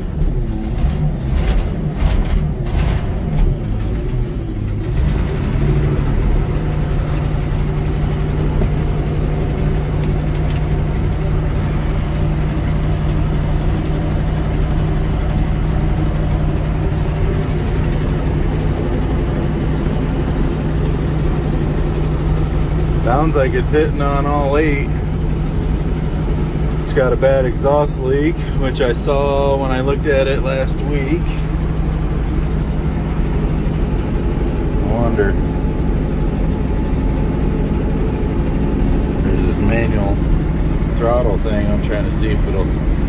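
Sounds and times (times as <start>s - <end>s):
truck engine idling roughly: 0.0s - 43.0s.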